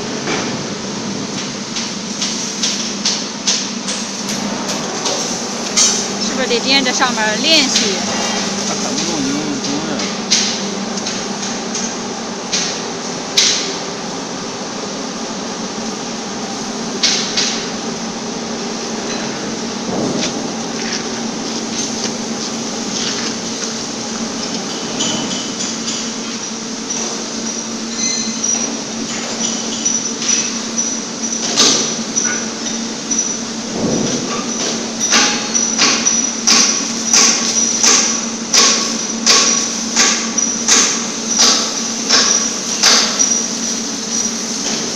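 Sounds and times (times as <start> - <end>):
machinery hum and hiss: 0.0 - 44.9.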